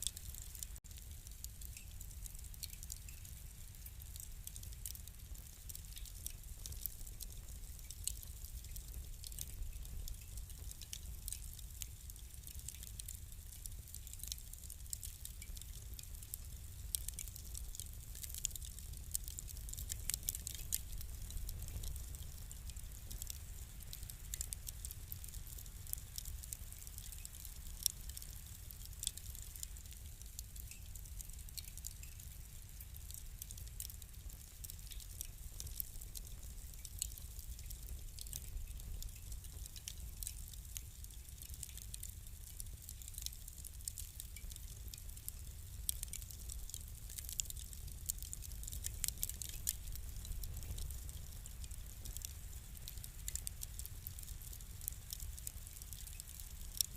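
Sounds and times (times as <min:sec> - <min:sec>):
low fire rumble: 0:00.0 - 0:56.9
wood fire crackling: 0:00.0 - 0:56.9.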